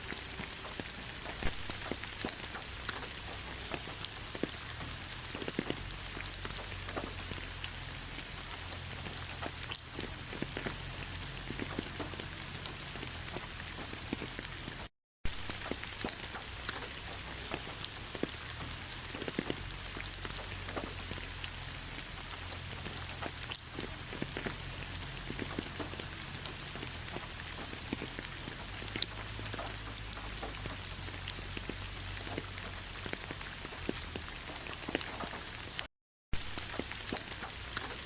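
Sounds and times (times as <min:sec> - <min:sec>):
rain pattering on leaves: 0:00.0 - 0:38.0.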